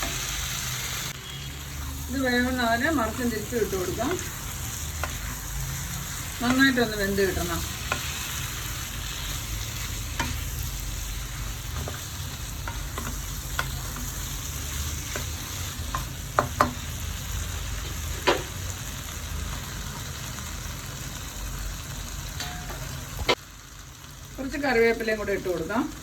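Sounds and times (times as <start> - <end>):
chicken sizzling in a pan: 0.0 - 26.0.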